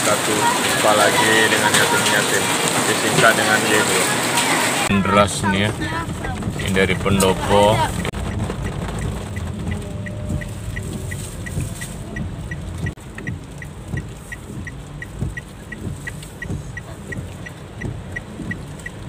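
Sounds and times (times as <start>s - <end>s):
car driving in heavy rain: 0.0s - 19.0s
turn signal ticking: 0.0s - 19.0s.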